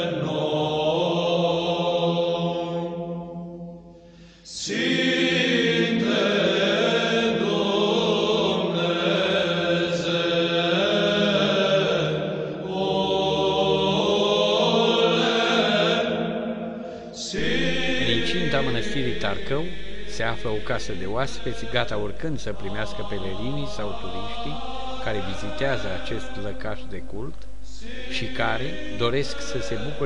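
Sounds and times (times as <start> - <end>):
men chanting: 0.0 - 2.9, 4.5 - 16.3, 17.0 - 30.0.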